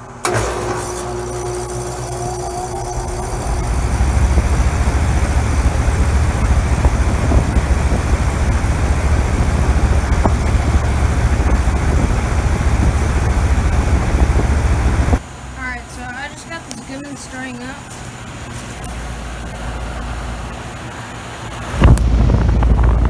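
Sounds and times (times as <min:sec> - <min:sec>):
heat pump unit humming: 0:00.0 - 0:23.0.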